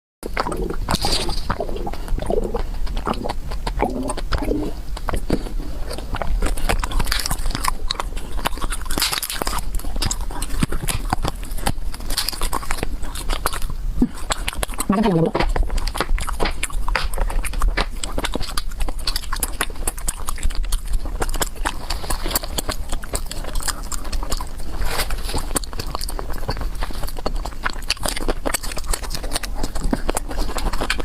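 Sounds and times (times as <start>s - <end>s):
crunchy bites: 0.2s - 31.0s
person chewing and biting: 0.2s - 31.0s
wet mouth clicks: 0.2s - 31.0s.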